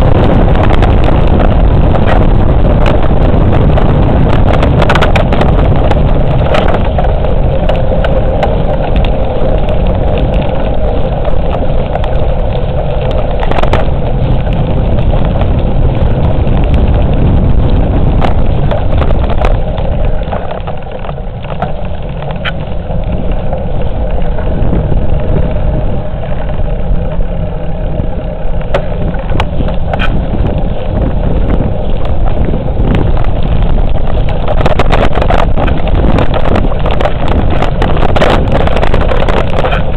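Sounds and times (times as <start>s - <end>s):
bicycle rattles and knocks: 0.0s - 39.9s
wind buffeting microphone: 0.0s - 39.9s.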